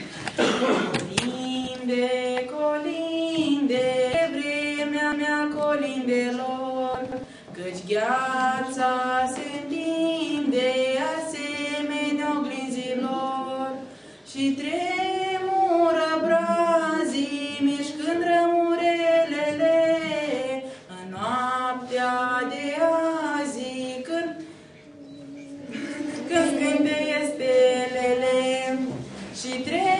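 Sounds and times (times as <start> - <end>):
woman singing unaccompanied: 0.9 - 25.0, 25.6 - 29.9.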